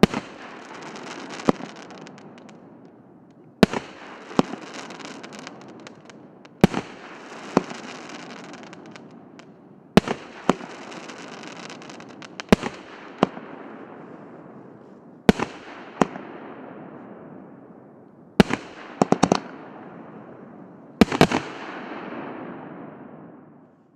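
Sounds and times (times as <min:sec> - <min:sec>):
fireworks bangs: 0:00.0 - 0:17.6, 0:18.4 - 0:23.8.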